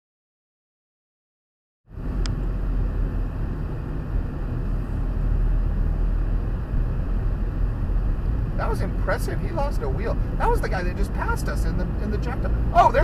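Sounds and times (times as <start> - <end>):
car road and engine rumble: 1.9 - 13.0.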